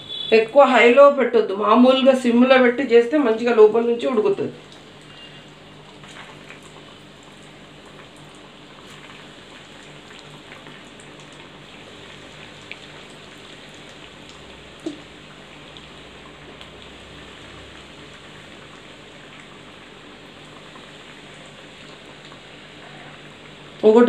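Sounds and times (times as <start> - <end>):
food deep-frying in oil: 1.7 - 24.0.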